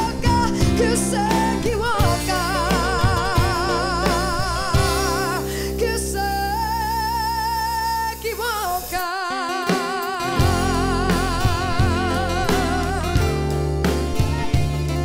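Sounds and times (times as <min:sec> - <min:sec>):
woman singing long notes: 0:00.0 - 0:13.6
bass: 0:00.0 - 0:15.0
drums: 0:00.0 - 0:15.0
guitar: 0:00.0 - 0:15.0.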